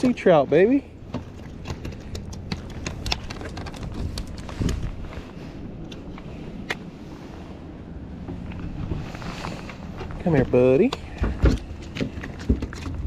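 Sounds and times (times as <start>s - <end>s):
low rumble of wind and water: 0.0s - 13.0s.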